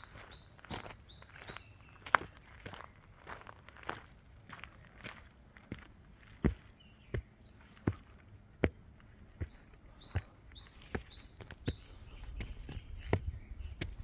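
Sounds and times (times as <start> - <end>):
footsteps walking: 0.0 - 14.0.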